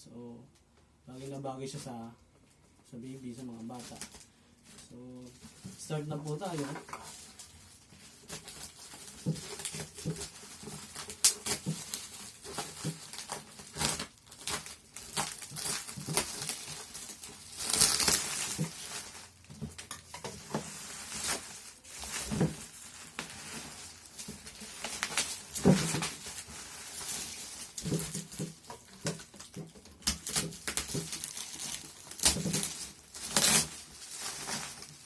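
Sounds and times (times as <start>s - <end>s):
plastic wrapping crinkling: 3.1s - 35.0s
rustling and tearing: 3.2s - 35.0s.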